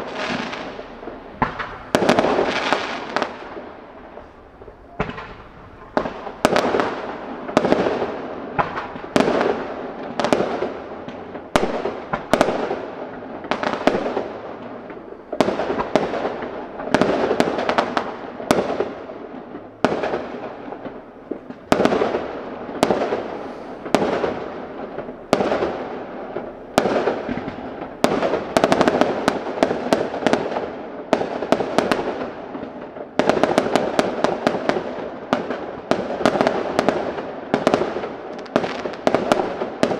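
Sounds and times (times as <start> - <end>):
fireworks bangs with echo: 0.0 - 39.9.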